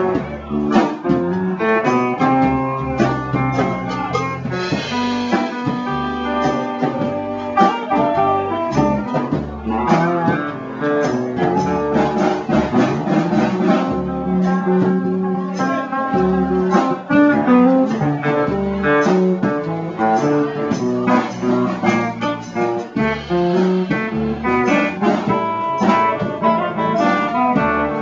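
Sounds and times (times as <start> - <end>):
bass line: 0.0 - 28.0
guitar picking quick runs: 0.0 - 28.0.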